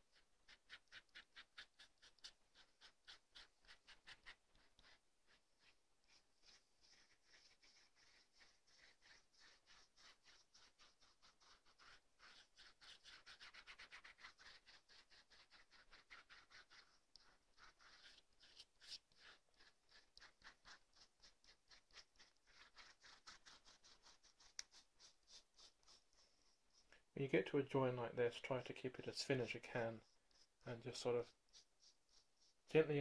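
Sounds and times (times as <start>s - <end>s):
fingertips rubbing wet plaster cloth: 0.0s - 26.9s, 28.6s - 33.0s.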